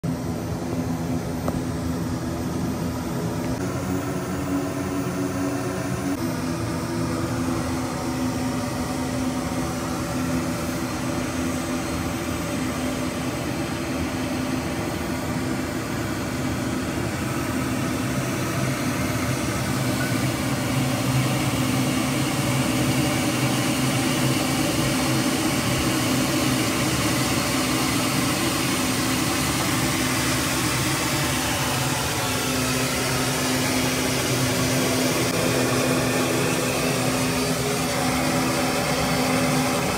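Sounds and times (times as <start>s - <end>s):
turboprop engines and propellers droning: 0.0s - 39.9s.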